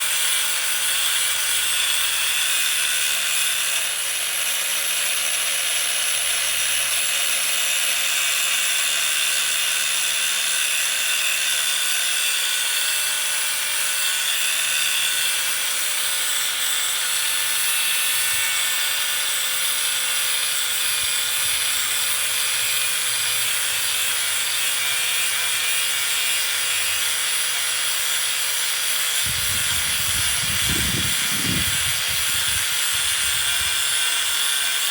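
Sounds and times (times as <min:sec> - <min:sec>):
metalworking power tool running: 0:00.0 - 0:34.9.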